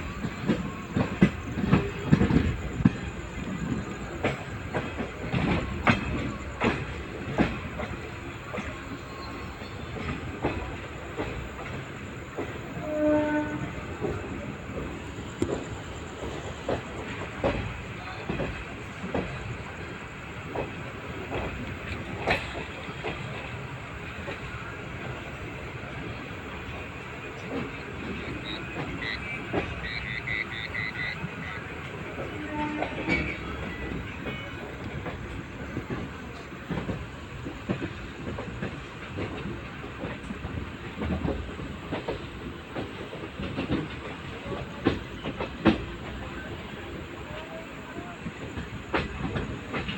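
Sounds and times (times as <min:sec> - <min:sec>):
train coach rumbling on track: 0:00.0 - 0:49.9.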